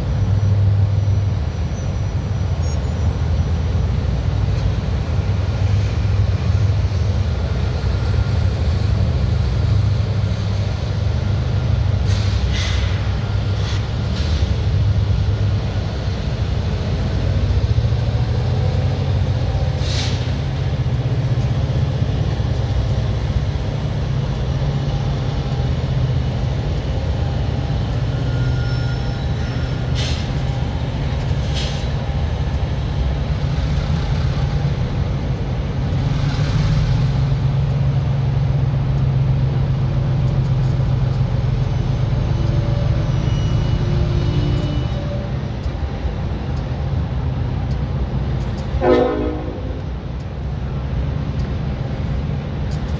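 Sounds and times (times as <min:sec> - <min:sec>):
diesel locomotive idling: 0:00.0 - 0:52.9
freight train rolling past: 0:00.0 - 0:52.9.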